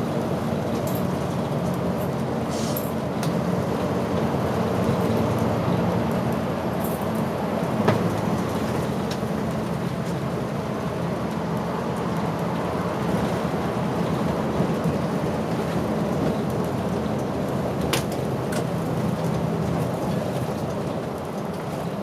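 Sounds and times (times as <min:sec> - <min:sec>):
bus diesel engine running: 0:00.0 - 0:22.0
road and cabin noise hiss: 0:00.0 - 0:22.0.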